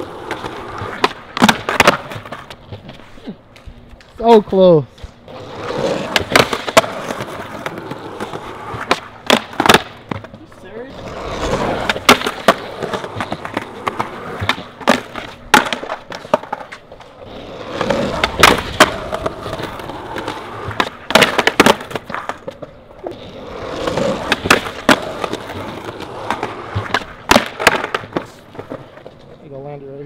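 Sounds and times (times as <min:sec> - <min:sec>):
skateboard cracking and clattering: 0:00.0 - 0:03.1, 0:05.3 - 0:29.4
skateboard wheels rolling on concrete: 0:00.0 - 0:30.0.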